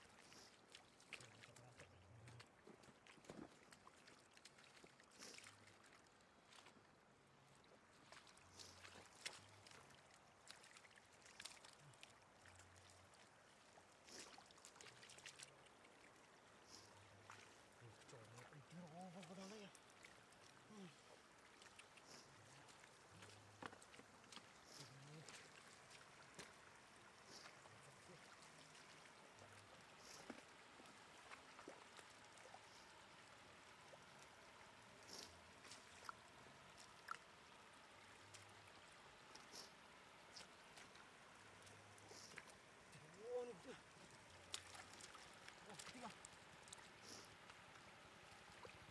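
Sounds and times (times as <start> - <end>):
faint splashing in water: 0.0 - 48.9.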